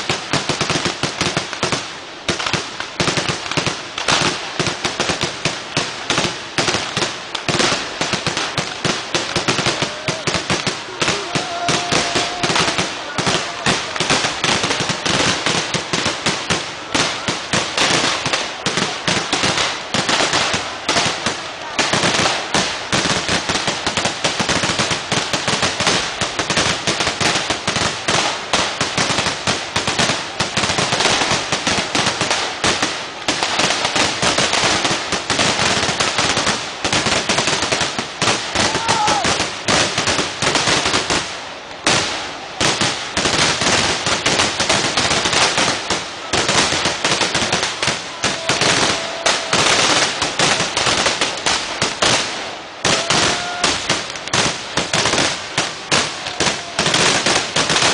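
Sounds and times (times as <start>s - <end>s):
firecracker barrage crackling: 0.0s - 57.9s.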